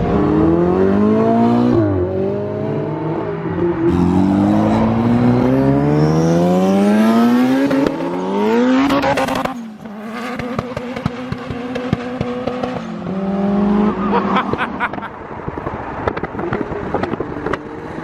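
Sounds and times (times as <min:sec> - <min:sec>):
car engine accelerating: 0:00.0 - 0:15.1.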